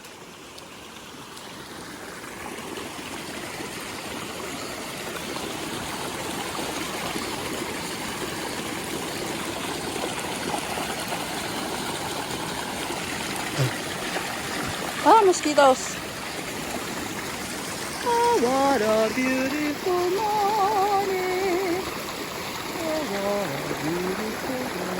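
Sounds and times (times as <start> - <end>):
stream rushing over waterfalls: 0.0 - 24.9.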